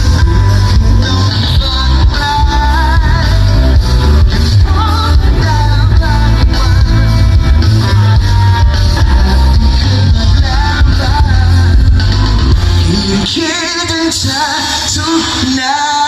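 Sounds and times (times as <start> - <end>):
bass and drum beat: 0.0 - 16.0
live rock band playing: 0.0 - 16.0
person singing: 0.0 - 16.0.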